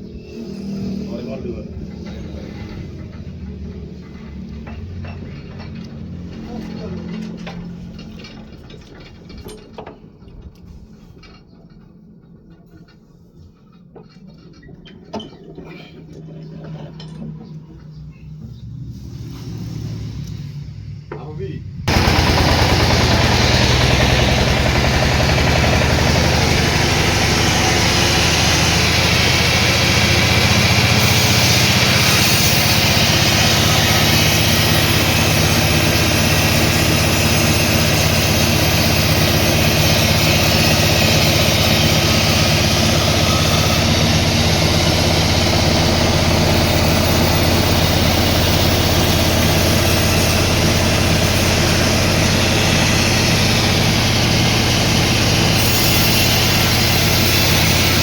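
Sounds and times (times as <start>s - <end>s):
heavy engine running steadily: 0.2s - 11.4s, 21.8s - 58.0s.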